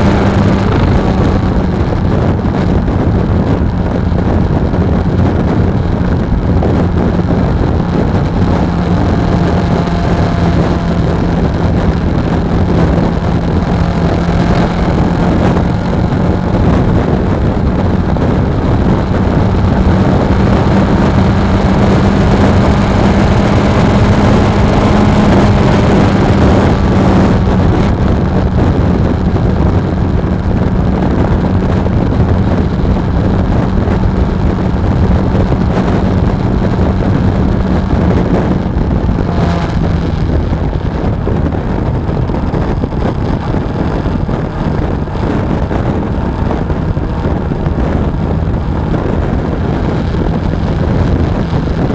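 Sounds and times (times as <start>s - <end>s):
motorcycle engine running: 0.0s - 51.9s
wind rush on microphone: 0.0s - 51.9s.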